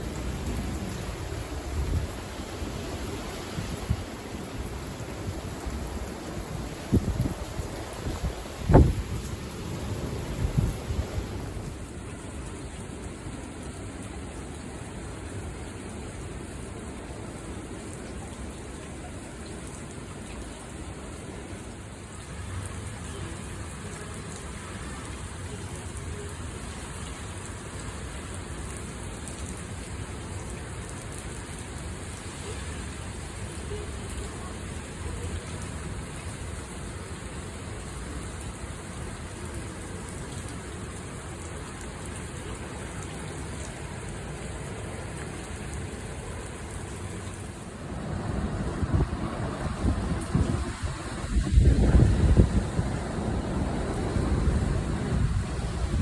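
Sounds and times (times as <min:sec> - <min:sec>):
heavy rain: 0:00.0 - 0:56.0
wind: 0:00.0 - 0:56.0.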